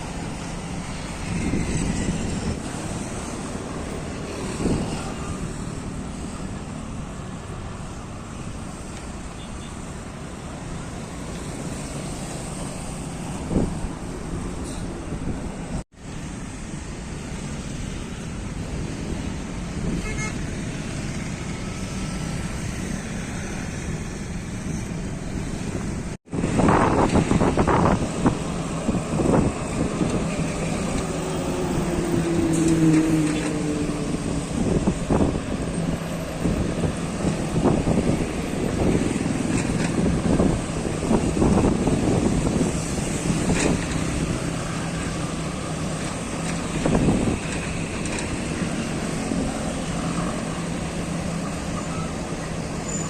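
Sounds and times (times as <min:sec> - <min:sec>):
traffic passing on busy road: 0:00.0 - 0:53.0.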